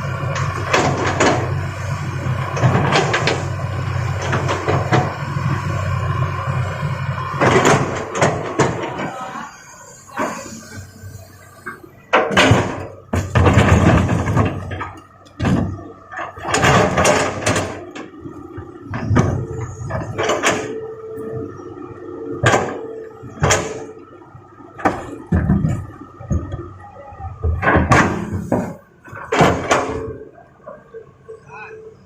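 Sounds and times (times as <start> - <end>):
diesel machinery running: 0.0 - 32.0.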